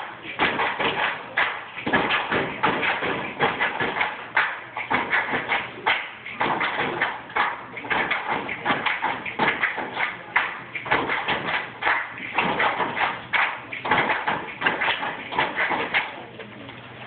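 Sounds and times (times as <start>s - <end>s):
children clapping in rhythm: 0.0s - 16.3s.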